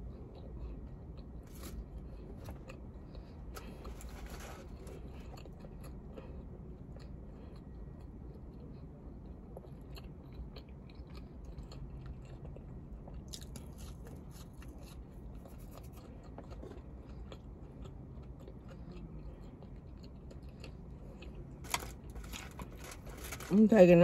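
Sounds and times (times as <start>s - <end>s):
person chewing food: 0.0s - 23.5s.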